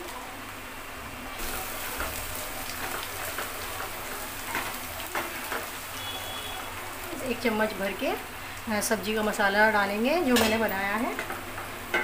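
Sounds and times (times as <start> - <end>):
food sizzling in hot oil: 1.4 - 12.0.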